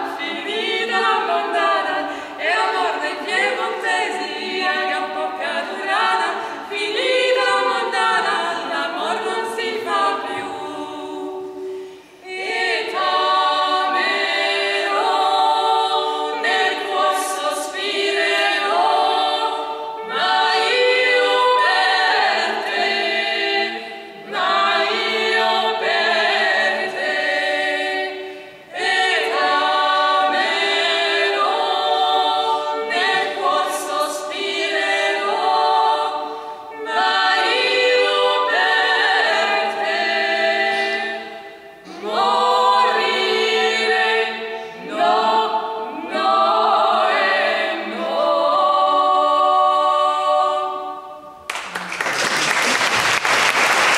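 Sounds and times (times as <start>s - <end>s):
voices singing in harmony: 0.0s - 51.6s.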